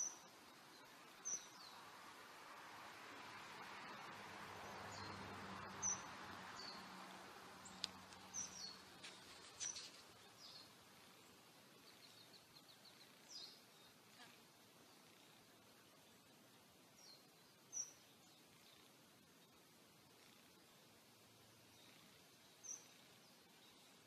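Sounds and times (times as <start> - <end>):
birds chirping: 0.0 - 1.9, 3.8 - 20.6, 21.4 - 24.0.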